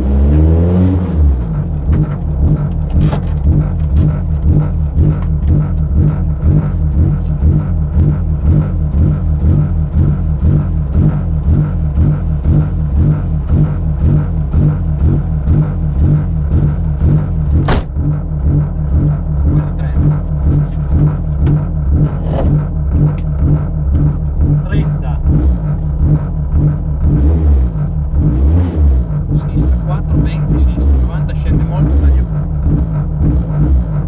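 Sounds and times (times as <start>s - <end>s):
car engine idling: 1.2s - 34.0s.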